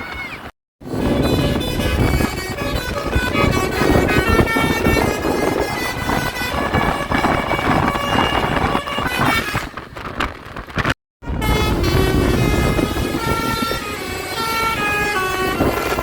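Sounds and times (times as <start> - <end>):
engine and road rumble: 0.0 - 16.0
multi-tone bus horn melody: 0.8 - 10.0, 11.2 - 16.0.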